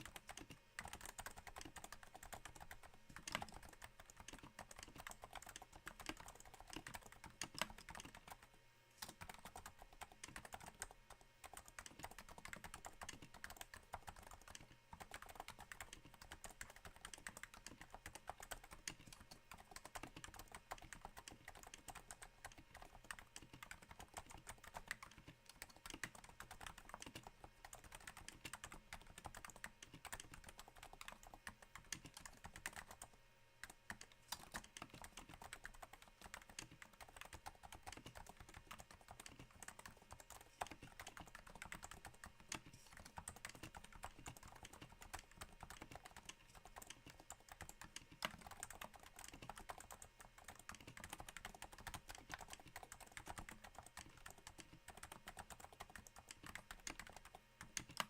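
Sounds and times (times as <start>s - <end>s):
soft keyboard typing: 0.0s - 58.0s.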